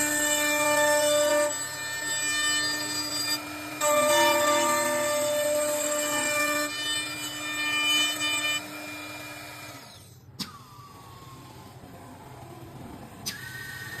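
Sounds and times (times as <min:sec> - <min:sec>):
wood-turning lathe whining: 0:00.0 - 0:10.2, 0:10.8 - 0:14.0.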